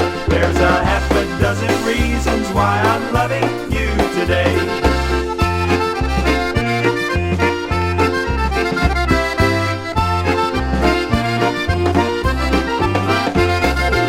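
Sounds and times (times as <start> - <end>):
bass notes: 0.0 - 14.0
concertina playing chords: 0.0 - 14.0.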